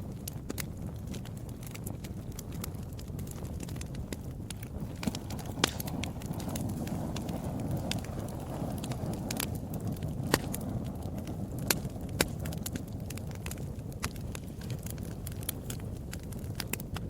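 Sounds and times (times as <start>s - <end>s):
fire rumbling: 0.0s - 17.0s
wood crackling and popping: 0.0s - 17.0s.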